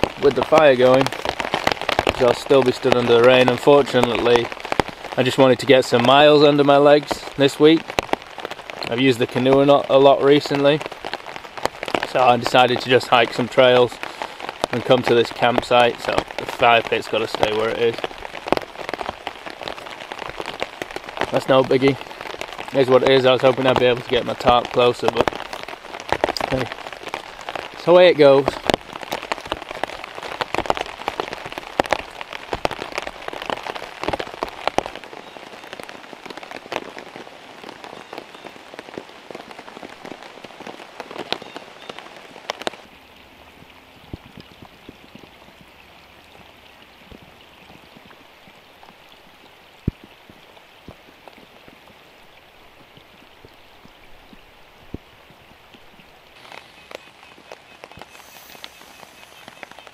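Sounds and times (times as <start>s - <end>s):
heavy rain on a tarp: 0.0s - 59.9s.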